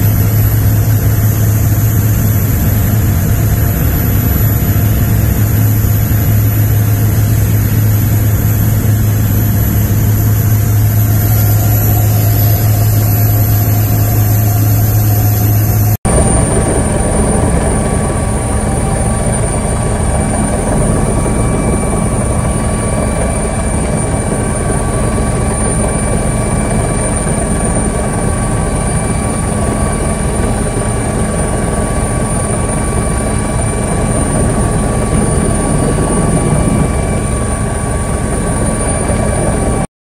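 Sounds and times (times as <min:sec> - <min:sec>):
helicopter engines and rotor: 0:00.0 - 0:39.9.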